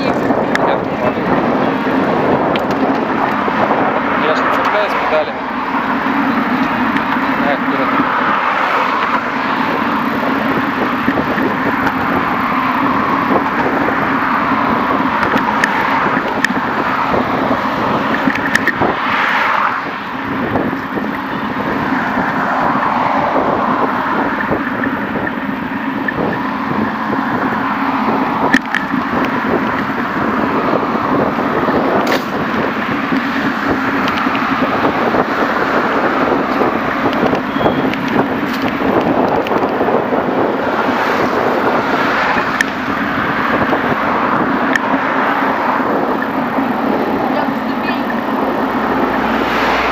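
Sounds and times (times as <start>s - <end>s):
cars passing: 0.0s - 49.9s
wind on microphone: 0.0s - 49.9s
bicycle clicks: 0.1s - 4.1s, 5.5s - 49.9s.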